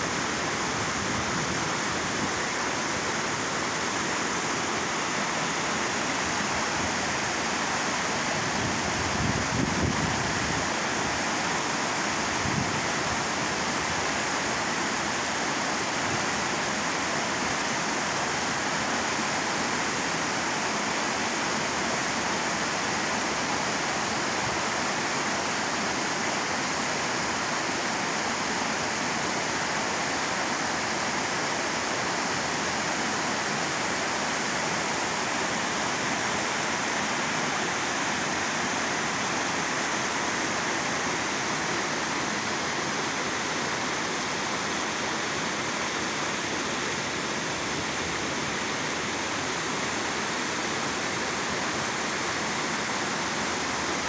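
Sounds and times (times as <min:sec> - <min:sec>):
water rushing over weir: 0:00.0 - 0:54.0.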